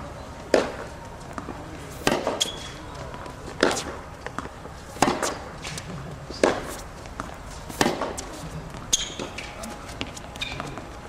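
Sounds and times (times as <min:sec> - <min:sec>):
rackets striking tennis ball: 0:00.4 - 0:11.0.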